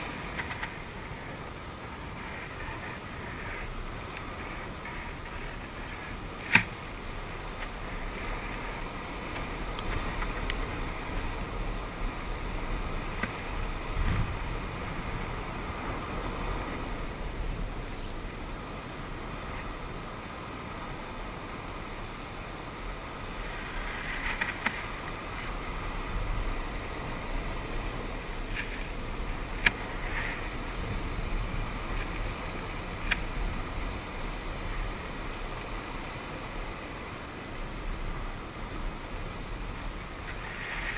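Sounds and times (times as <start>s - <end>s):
ocean waves surf roar: 0.0s - 40.9s.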